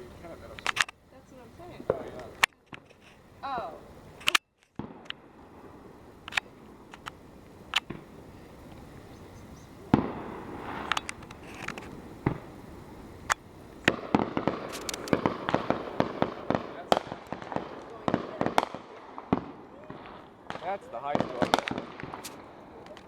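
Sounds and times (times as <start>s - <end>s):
crackling pops: 0.0s - 3.3s, 4.1s - 9.0s, 9.7s - 23.0s
fireworks bangs: 0.0s - 23.0s.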